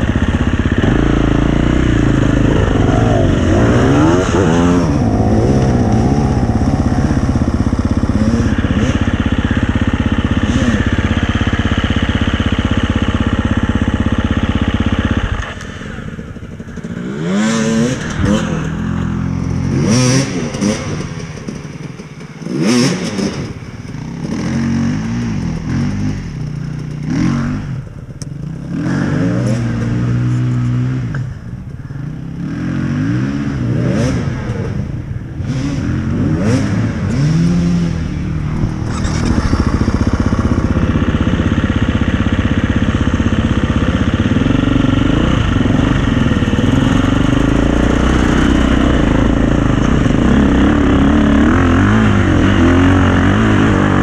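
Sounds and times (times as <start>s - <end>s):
dirt bike engine revving in bursts: 0.0s - 27.8s, 28.5s - 31.4s, 32.0s - 54.0s
dirt bike engine running hard: 0.0s - 54.0s.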